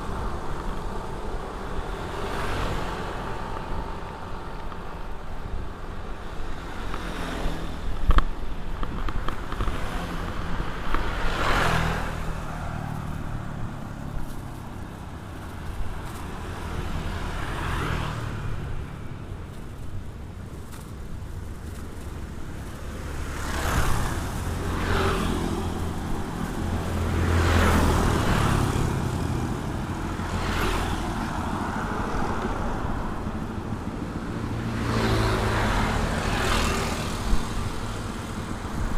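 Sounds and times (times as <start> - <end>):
traffic rumble: 0.0 - 38.9
vehicles passing close by: 0.0 - 38.9.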